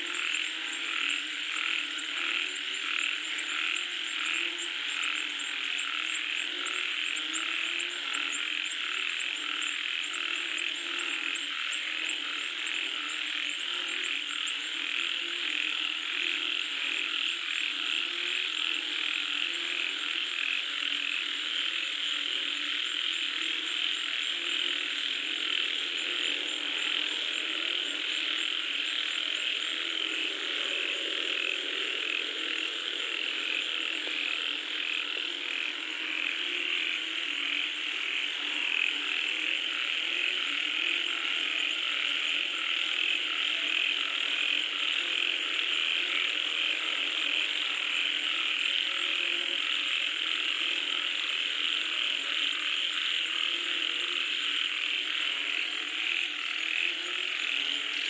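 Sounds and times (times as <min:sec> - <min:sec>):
high frog calls: 0:00.0 - 0:58.0
low frog croaks: 0:00.0 - 0:58.0.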